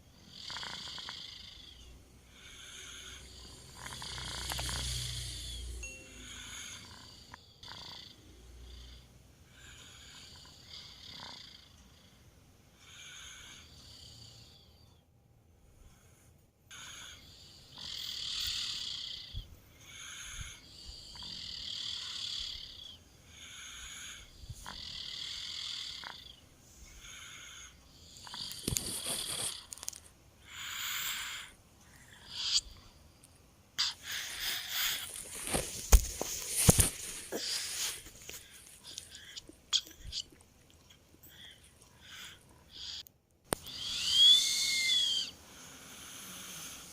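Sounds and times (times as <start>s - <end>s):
child snoring softly: 0.0s - 15.0s, 15.9s - 33.0s, 33.8s - 35.6s, 36.7s - 40.4s, 41.2s - 46.9s.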